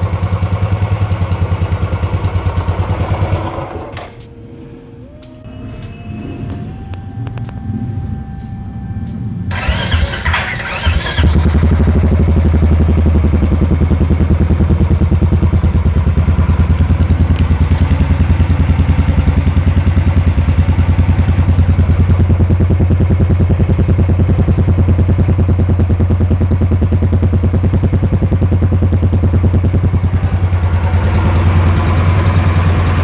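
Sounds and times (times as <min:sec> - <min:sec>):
motorcycle engine cranking: 0:00.0 - 0:04.3, 0:09.5 - 0:33.0
motorcycle engine idling: 0:00.0 - 0:04.3, 0:09.5 - 0:33.0.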